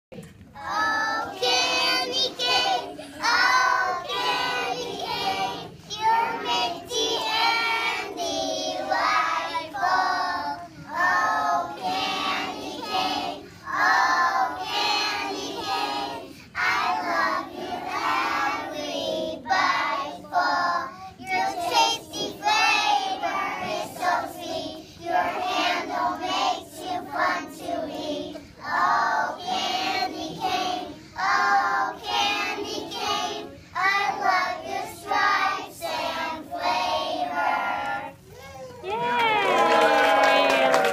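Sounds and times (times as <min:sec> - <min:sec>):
children singing in unison: 0:00.6 - 0:38.2.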